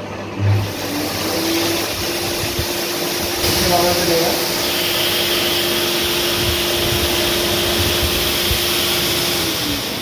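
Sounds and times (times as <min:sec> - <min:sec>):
bathtub air blower whining: 0:00.0 - 0:10.0.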